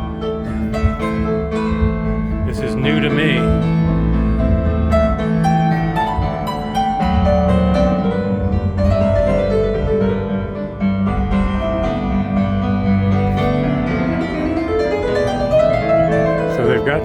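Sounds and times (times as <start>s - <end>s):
piano music with bass line: 0.0s - 17.0s.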